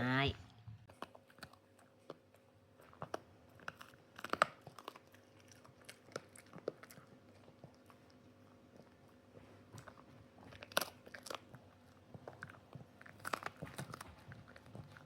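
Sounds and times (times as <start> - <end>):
dog chewing a hard chew: 0.9 - 15.0.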